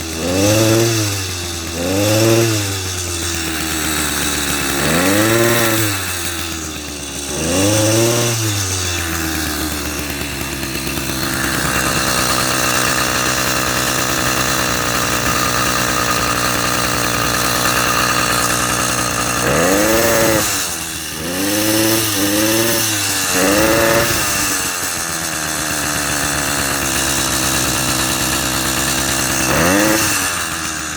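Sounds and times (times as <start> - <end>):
two-stroke engine revving: 0.0 - 30.9.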